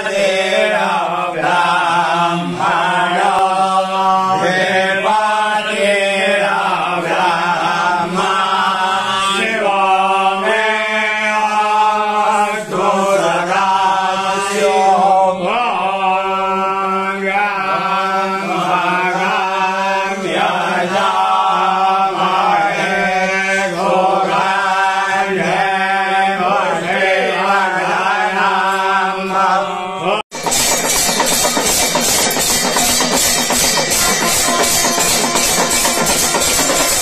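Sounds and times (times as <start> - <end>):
mantra chanting: 0.0 - 30.2.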